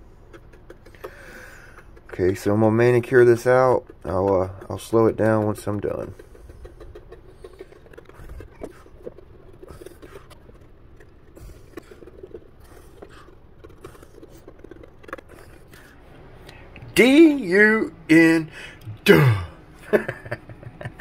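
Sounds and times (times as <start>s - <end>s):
brush scratching and tapping: 0.0s - 17.5s
low room rumble: 0.0s - 21.0s.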